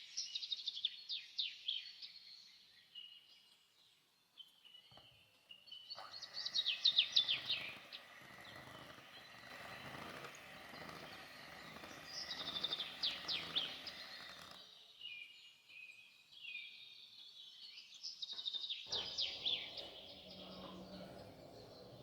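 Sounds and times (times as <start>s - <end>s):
birds chirping in trills: 0.0s - 22.0s.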